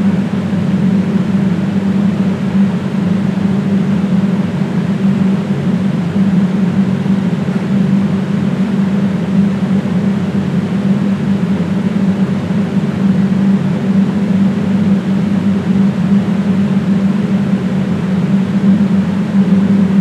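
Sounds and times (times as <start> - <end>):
machine drone with hiss: 0.0 - 20.0.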